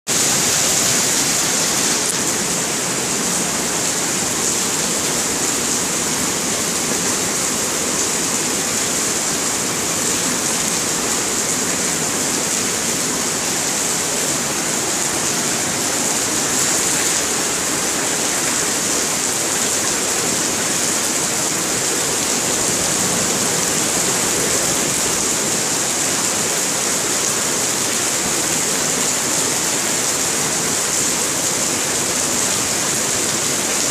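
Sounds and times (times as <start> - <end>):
rain pouring on pavement: 0.1 - 33.9.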